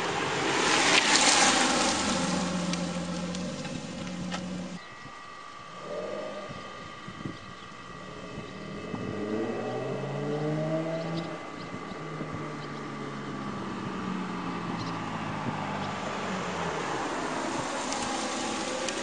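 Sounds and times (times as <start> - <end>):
car engine accelerating: 0.0 - 4.8, 7.8 - 19.0
road and wind noise: 0.0 - 19.0.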